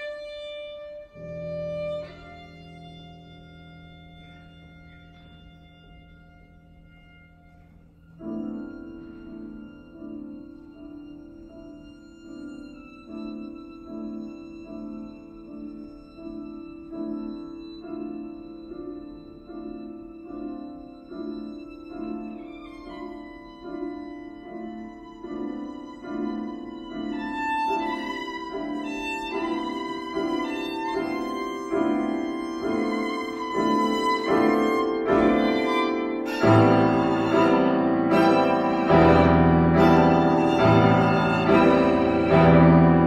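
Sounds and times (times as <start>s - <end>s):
violin held notes: 0.0s - 43.0s
piano repeating chords: 7.7s - 43.0s.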